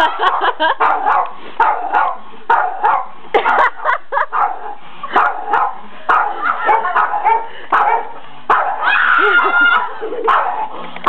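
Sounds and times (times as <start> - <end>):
dog barking aggressively: 0.0 - 9.0, 10.2 - 10.8.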